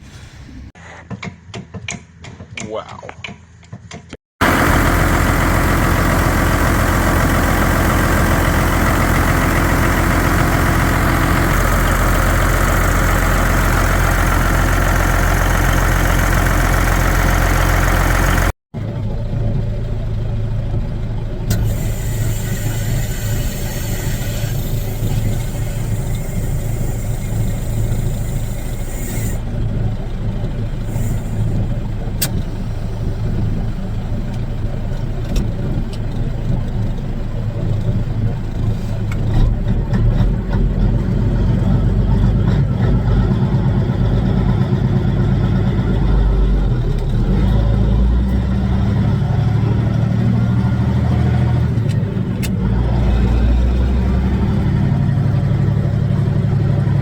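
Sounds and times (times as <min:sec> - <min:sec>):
diesel truck engine running: 0:04.4 - 0:57.0.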